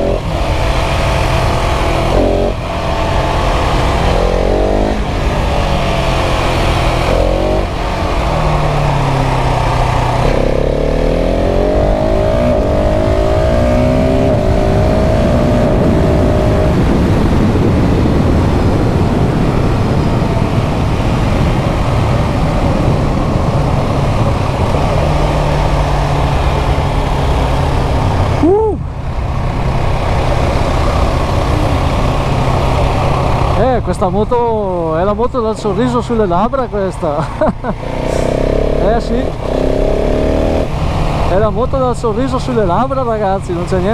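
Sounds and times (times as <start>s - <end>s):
wind rush: 0.0s - 35.6s
motorcycle engine accelerating: 0.0s - 43.9s.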